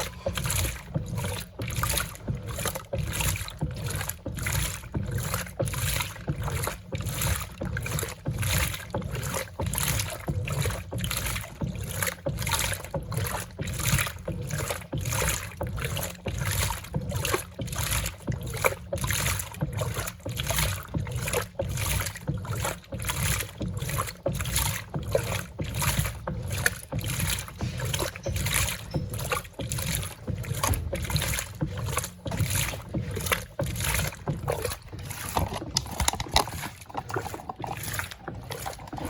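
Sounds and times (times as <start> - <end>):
washing machine hum: 0.0 - 39.0
washing machine water sloshing: 0.0 - 39.0.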